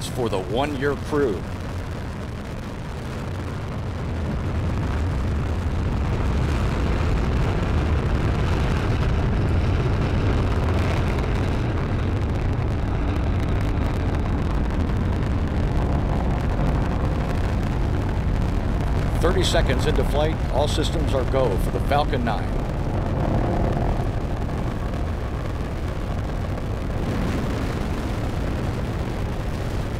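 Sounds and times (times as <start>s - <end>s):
rocket engines low rumble: 0.0s - 29.9s.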